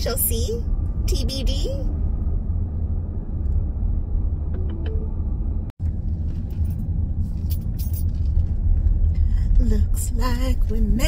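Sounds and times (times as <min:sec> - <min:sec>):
minivan engine and road noise: 0:00.0 - 0:11.0.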